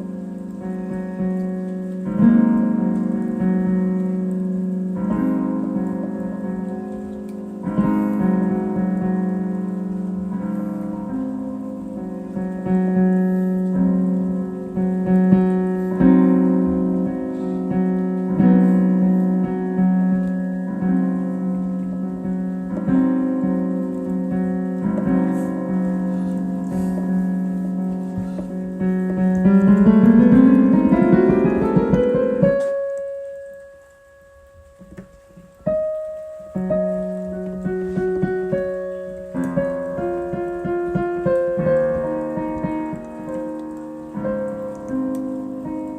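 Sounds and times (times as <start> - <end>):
solo piano chords: 0.0 - 45.9.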